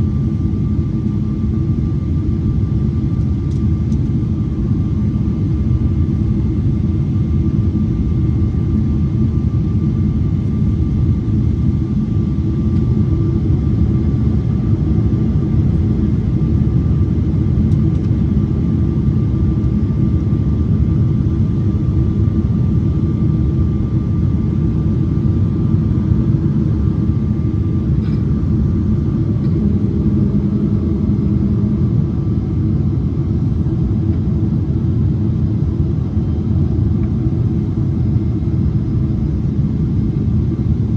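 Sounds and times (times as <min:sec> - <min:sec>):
aircraft cabin rumble: 0:00.0 - 0:40.9.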